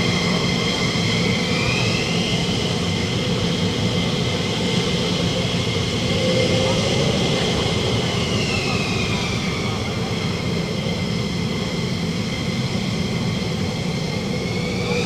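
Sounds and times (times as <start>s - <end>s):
jet engine whine and rush: 0.0s - 15.0s.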